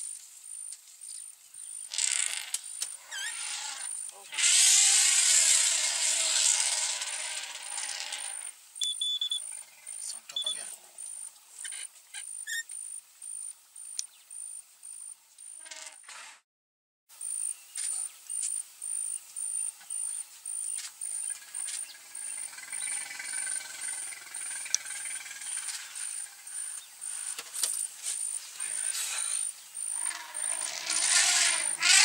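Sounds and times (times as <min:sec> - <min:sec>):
insect chirping: 0:00.0 - 0:16.0, 0:17.1 - 0:32.0.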